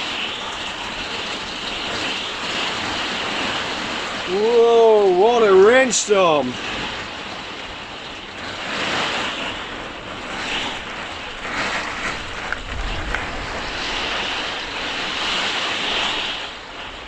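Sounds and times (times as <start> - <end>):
gusting wind: 0.0 - 17.0
heavy rain on a roof: 0.0 - 17.0.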